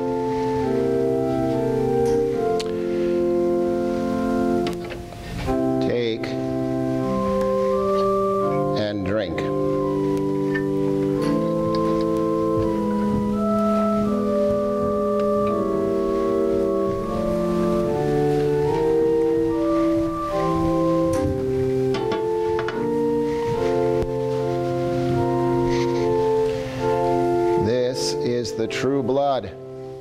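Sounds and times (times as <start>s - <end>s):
organ playing slow chords: 0.0s - 30.0s.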